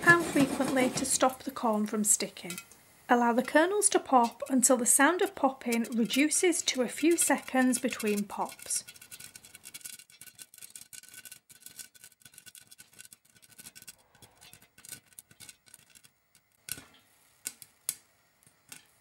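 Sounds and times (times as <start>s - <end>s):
popcorn popping in covered pan: 0.0s - 19.0s.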